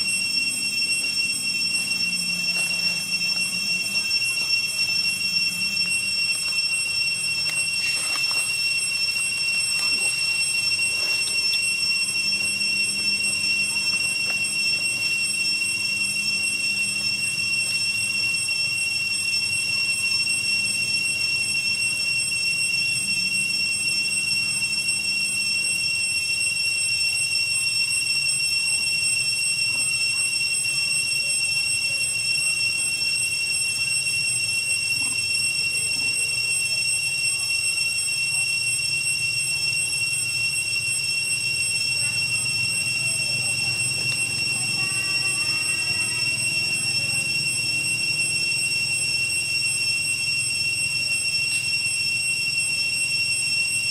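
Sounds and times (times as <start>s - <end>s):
cicadas whining: 0.0s - 53.9s.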